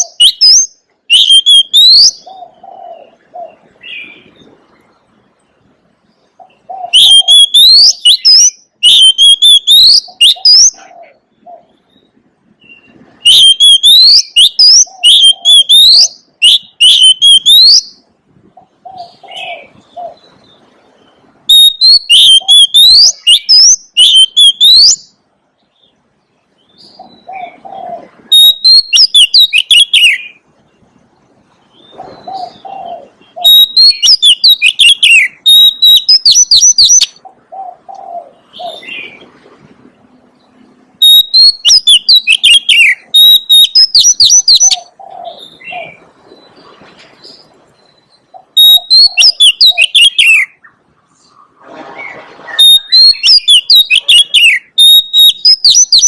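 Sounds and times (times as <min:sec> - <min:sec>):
bird whistling song: 0:00.0 - 0:04.5, 0:06.4 - 0:18.1, 0:18.8 - 0:25.2, 0:26.6 - 0:30.4, 0:31.7 - 0:39.2, 0:41.0 - 0:50.8, 0:52.0 - 0:56.0.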